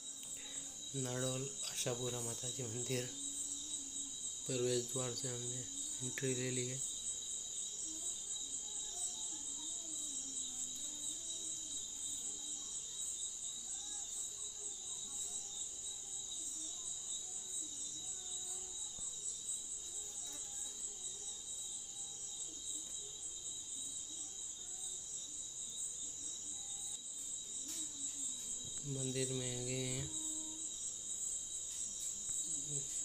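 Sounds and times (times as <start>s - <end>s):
insect chorus drone: 0.0s - 33.0s.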